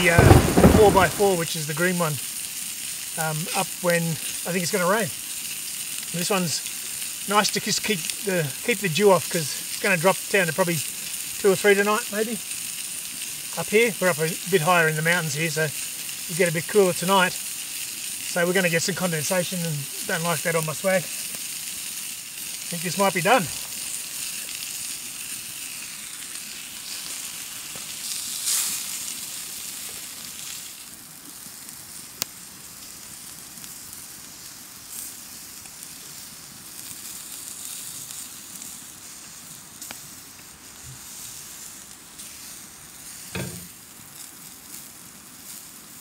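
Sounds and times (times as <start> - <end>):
meat sizzling on a grill: 0.0 - 46.0.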